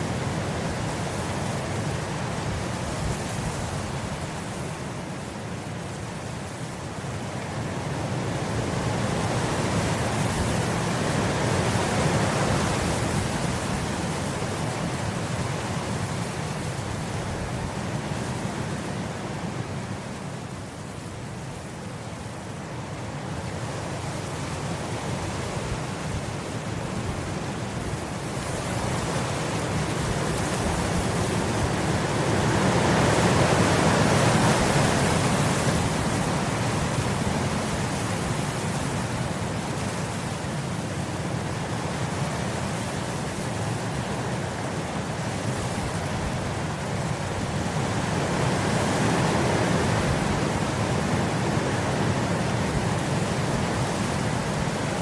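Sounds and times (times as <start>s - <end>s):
wind blowing across grass: 0.0s - 55.0s.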